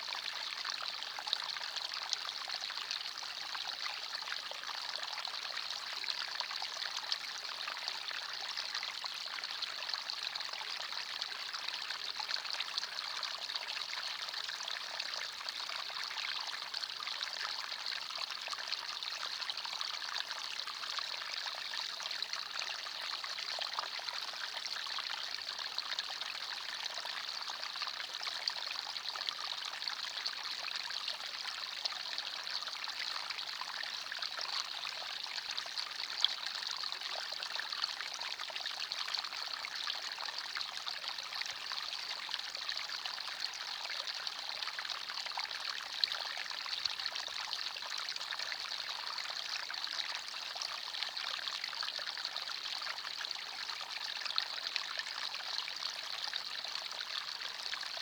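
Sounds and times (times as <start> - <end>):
stream trickling over stones: 0.2 - 58.0.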